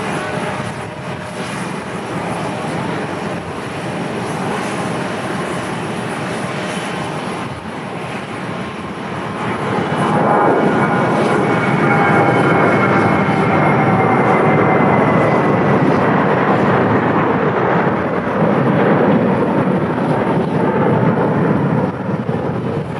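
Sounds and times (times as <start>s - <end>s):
high engine whine: 0.0s - 22.9s
jet engines rumbling: 0.0s - 22.9s.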